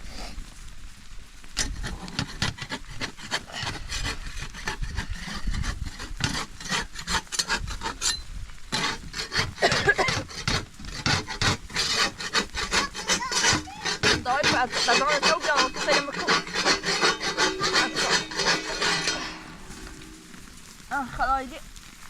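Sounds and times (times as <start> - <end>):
scraping strokes on wood: 1.6 - 20.7.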